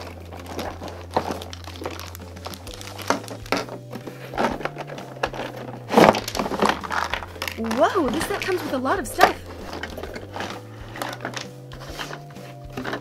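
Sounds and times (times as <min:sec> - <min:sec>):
background music: 0:00.0 - 0:13.0
plastic bags crinkling: 0:00.0 - 0:13.0.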